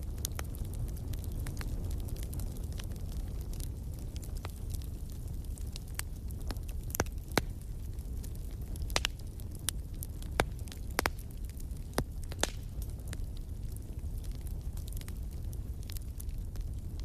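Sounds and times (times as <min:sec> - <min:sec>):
fire crackling and popping: 0:00.0 - 0:17.0
low rumble of burning fire: 0:00.0 - 0:17.0.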